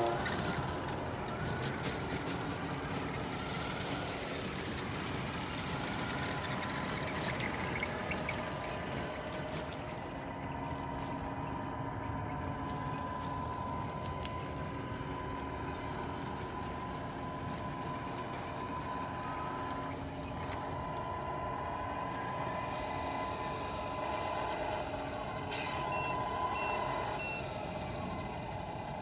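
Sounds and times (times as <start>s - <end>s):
toy truck motor whine: 0.0s - 29.0s.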